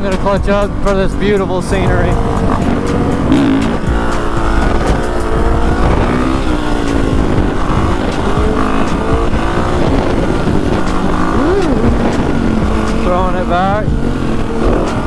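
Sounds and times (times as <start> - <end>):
dirt bike engine revving: 0.0 - 15.0
wind on microphone: 0.0 - 15.0.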